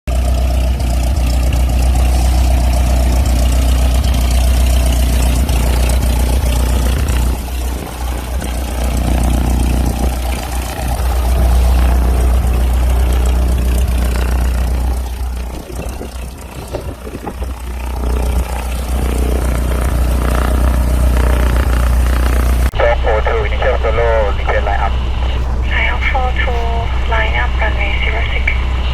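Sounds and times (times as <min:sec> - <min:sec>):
airplane engine drone in cabin: 0:00.1 - 0:28.9.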